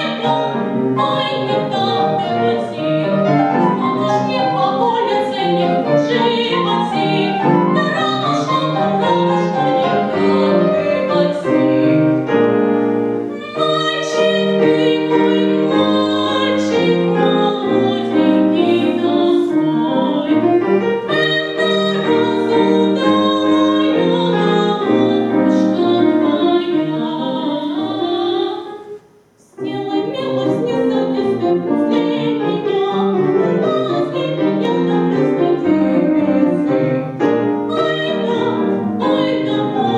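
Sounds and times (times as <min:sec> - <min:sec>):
classical-style singing: 0:00.0 - 0:39.9
piano accompaniment: 0:00.0 - 0:39.9.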